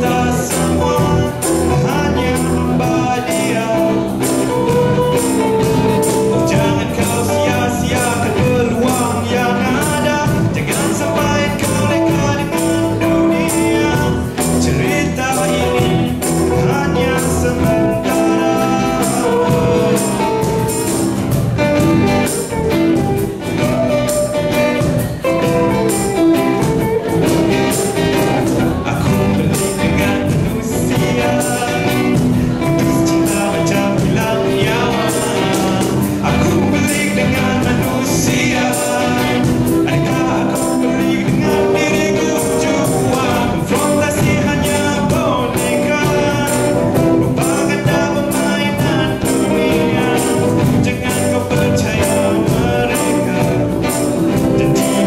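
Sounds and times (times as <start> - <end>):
acoustic and electric guitars: 0.0 - 55.0
man singing: 0.0 - 55.0
percussion beat: 0.0 - 55.0.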